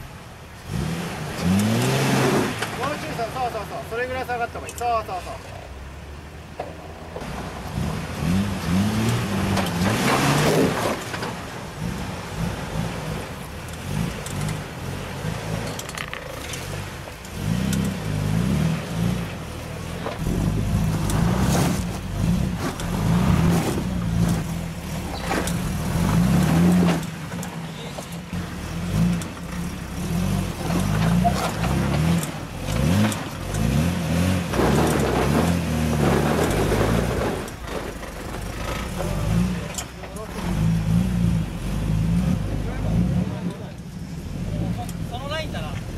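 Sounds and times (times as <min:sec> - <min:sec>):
engine revving at low revs: 0:00.0 - 0:04.3, 0:07.2 - 0:45.9.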